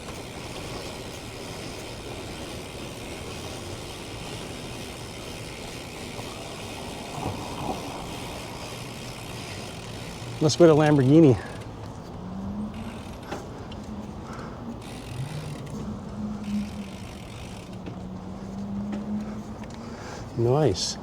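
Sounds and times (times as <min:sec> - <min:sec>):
street and traffic noise: 0:00.0 - 0:21.0.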